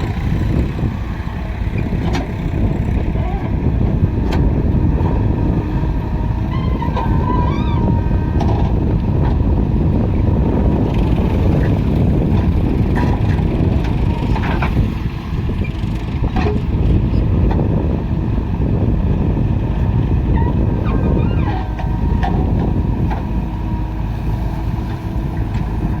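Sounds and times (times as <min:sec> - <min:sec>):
diesel engines running: 0:00.0 - 0:26.0.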